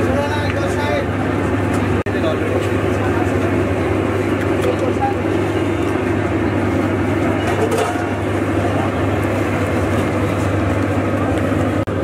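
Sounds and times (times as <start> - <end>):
constant low hum: 0.0 - 12.0
crowd noise: 0.0 - 12.0
street traffic: 0.0 - 12.0.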